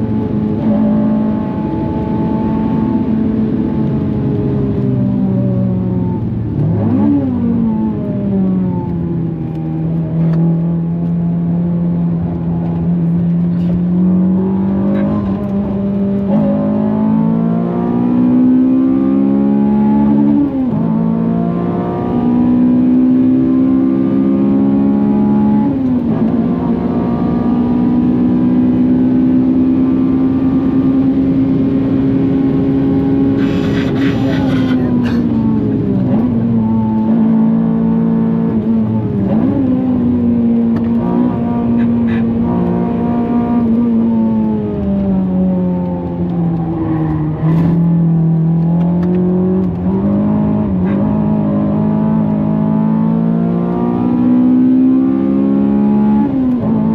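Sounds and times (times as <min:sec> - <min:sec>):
car engine accelerating hard: 0:00.0 - 0:56.9.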